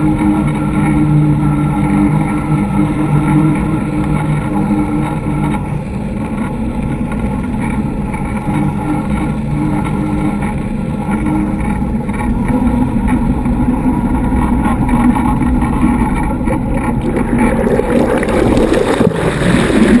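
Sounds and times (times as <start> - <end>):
boat diesel engines droning: 0.0 - 20.0
water noise: 0.0 - 20.0.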